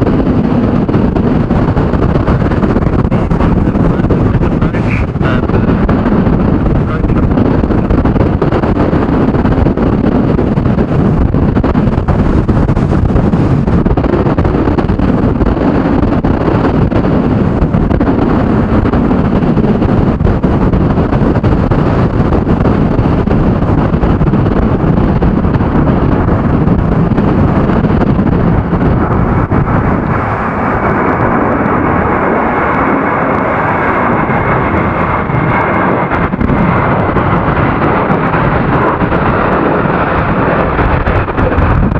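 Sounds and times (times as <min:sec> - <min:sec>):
jet aircraft noise: 0:00.0 - 0:41.9
wind buffeting microphone: 0:00.0 - 0:41.9.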